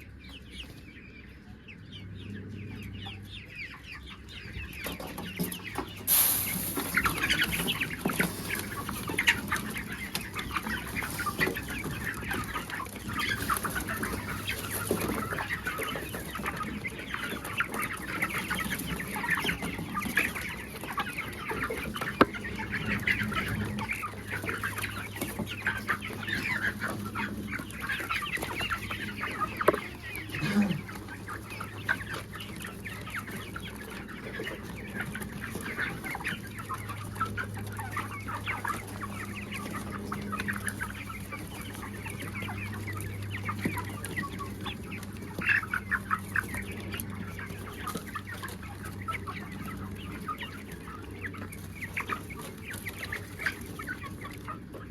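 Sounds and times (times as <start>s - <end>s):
chickens clucking: 0.0s - 54.9s.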